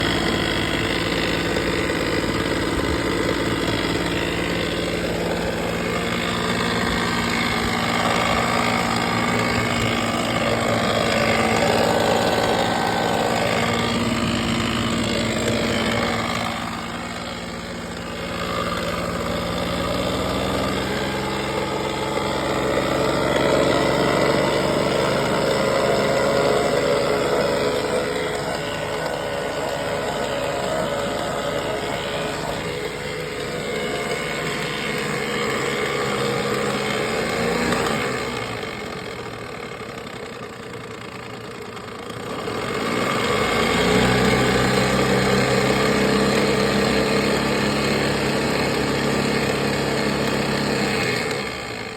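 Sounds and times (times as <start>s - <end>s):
outboard motor running: 0.0s - 51.9s.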